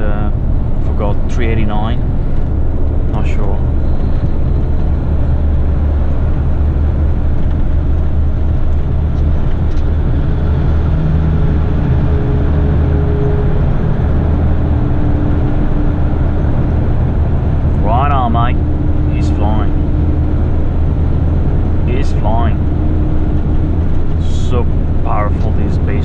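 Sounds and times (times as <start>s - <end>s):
humming tones: 0.0s - 26.0s
truck engine and tyres droning: 0.0s - 26.0s.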